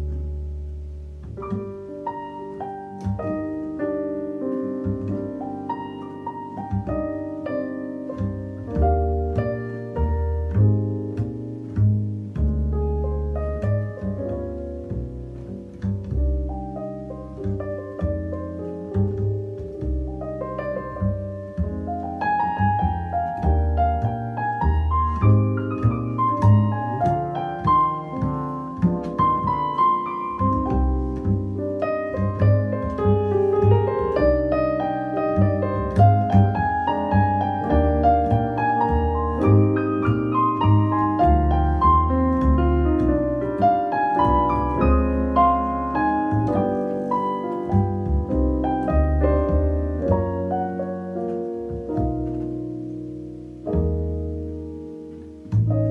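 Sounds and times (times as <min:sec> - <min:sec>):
piano playing chords: 0:00.0 - 0:55.9
plucked upright bass: 0:00.0 - 0:55.9.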